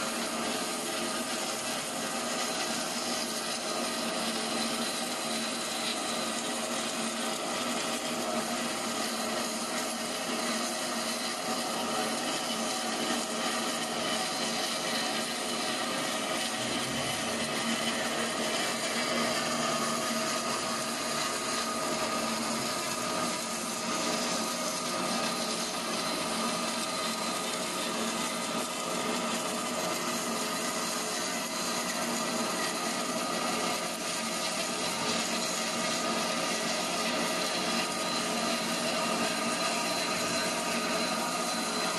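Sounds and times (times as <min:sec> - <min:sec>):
cutting wire sawing through foam: 0:00.0 - 0:41.9.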